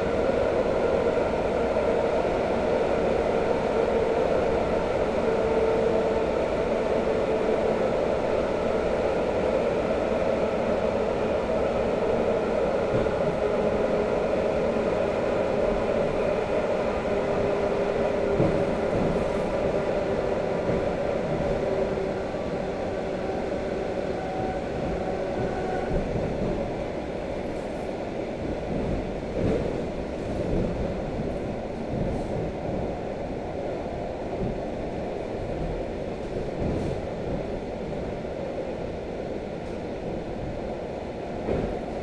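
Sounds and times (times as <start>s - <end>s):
train rumbling at speed: 0.0s - 42.0s.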